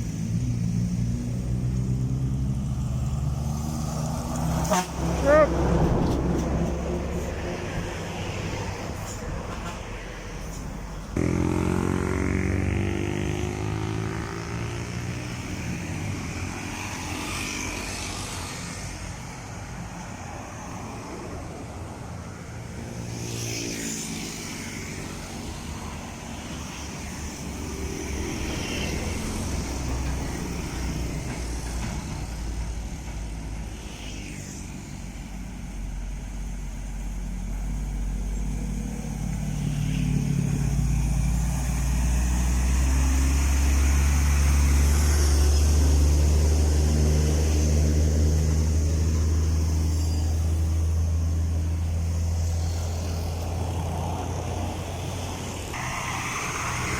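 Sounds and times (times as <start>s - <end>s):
heavy vehicle engine: 0.0s - 56.9s
traffic engine noise: 0.0s - 56.9s
vehicles rushing past: 0.0s - 56.9s.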